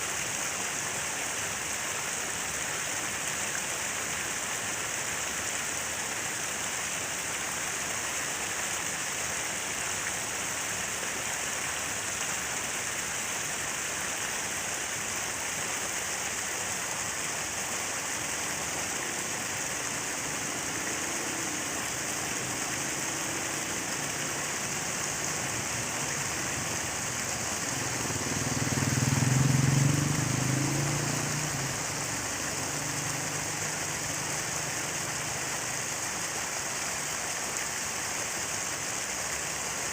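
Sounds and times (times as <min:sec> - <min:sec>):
falling water splashing: 0:00.0 - 0:39.9.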